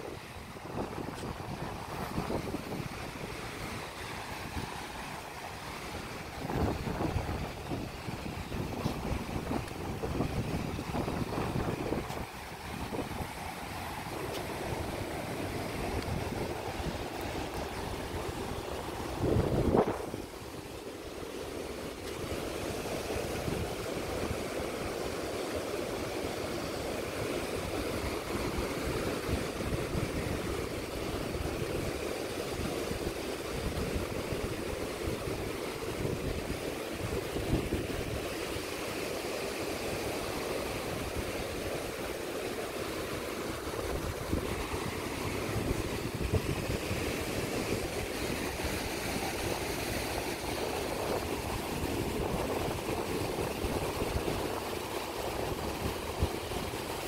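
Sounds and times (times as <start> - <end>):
wind buffeting microphone: 0.0 - 21.2, 26.9 - 38.8, 42.6 - 57.0
waves washing against rocks: 0.0 - 57.0.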